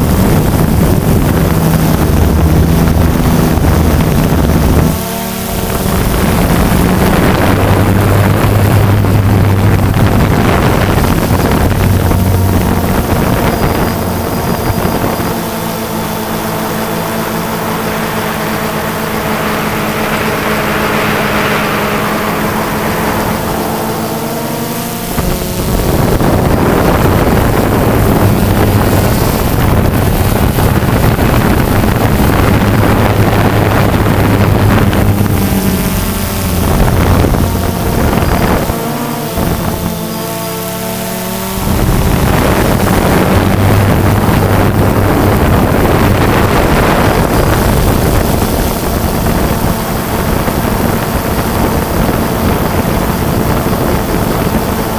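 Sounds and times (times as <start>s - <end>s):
drone motors humming: 0.0s - 54.9s
wind buffeting microphone: 0.0s - 54.9s.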